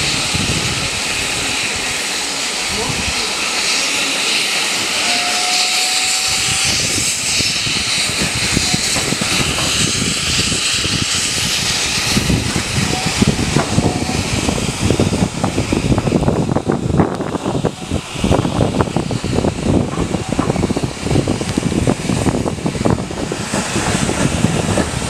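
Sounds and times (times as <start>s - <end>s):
rushing hiss of steam: 0.0s - 25.0s.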